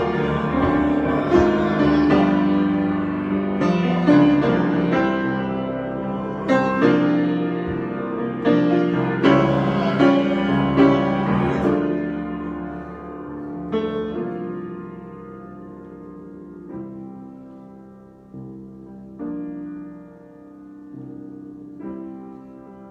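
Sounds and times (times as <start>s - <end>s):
solo piano chords: 0.0s - 22.9s.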